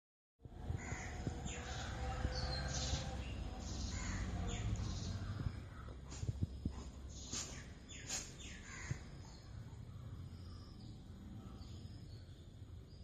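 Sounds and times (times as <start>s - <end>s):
steady low rumble: 0.4s - 13.0s
birds calling and chirping: 0.5s - 13.0s.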